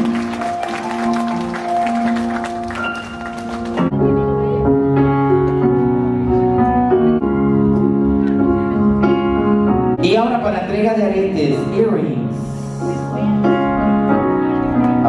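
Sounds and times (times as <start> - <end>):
slow keyboard chords: 0.0 - 15.0.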